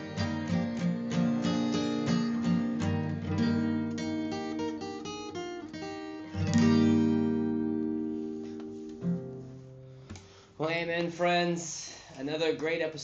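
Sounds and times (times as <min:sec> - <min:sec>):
acoustic guitar hymn tune: 0:00.0 - 0:10.4.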